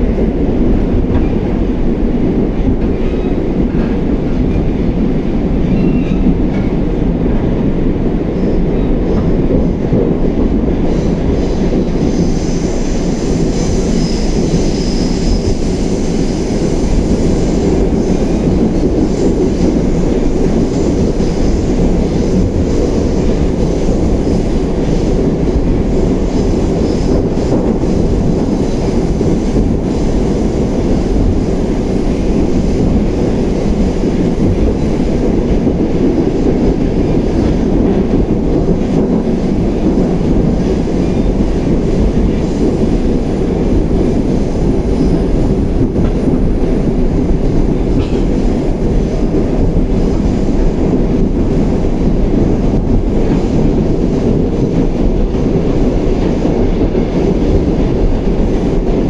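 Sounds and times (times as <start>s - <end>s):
metro car rumbling in tunnel: 0.0s - 59.0s.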